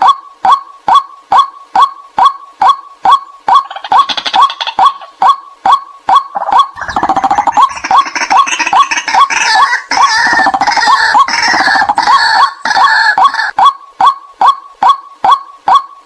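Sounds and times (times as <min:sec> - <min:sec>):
clucking bird call: 0:00.0 - 0:16.0
jumbled bird calls: 0:00.5 - 0:16.0.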